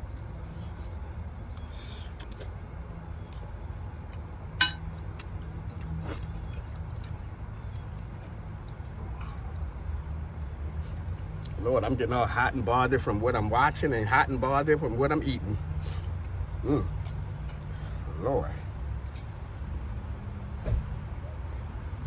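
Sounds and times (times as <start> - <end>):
low vehicle hum: 0.0 - 22.0.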